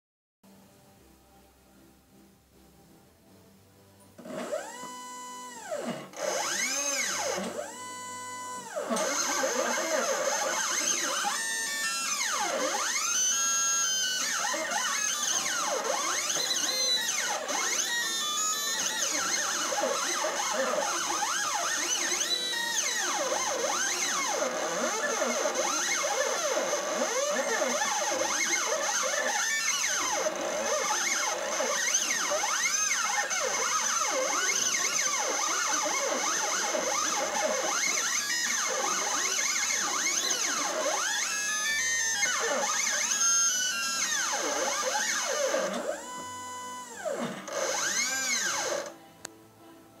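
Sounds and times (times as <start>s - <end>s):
stepper motors whining: 4.2s - 49.0s.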